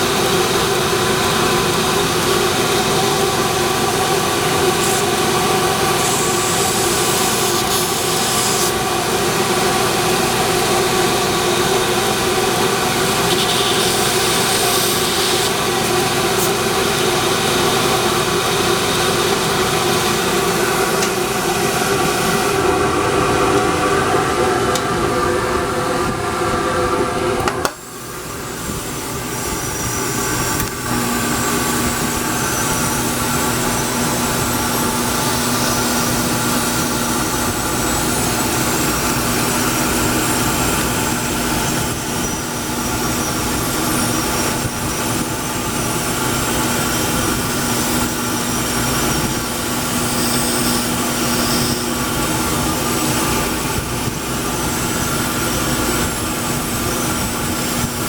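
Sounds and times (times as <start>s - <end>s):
power tool humming: 0.0s - 58.0s.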